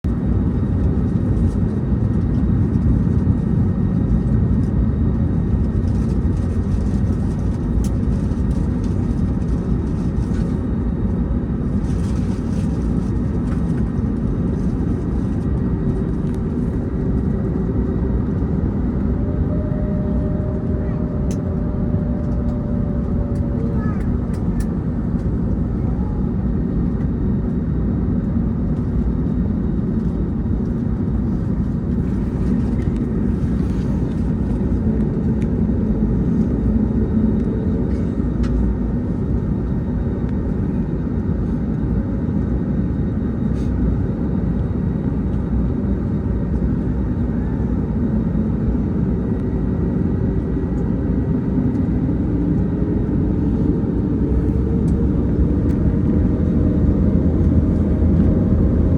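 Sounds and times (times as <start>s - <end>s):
jet engines running: 0.1s - 58.9s.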